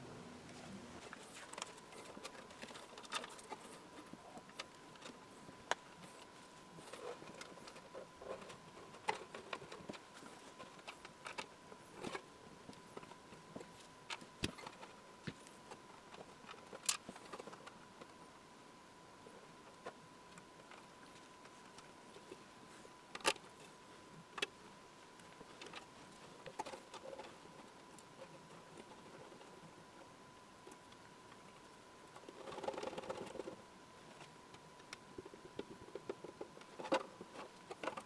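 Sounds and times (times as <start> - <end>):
faint steady tone: 0.0 - 38.0.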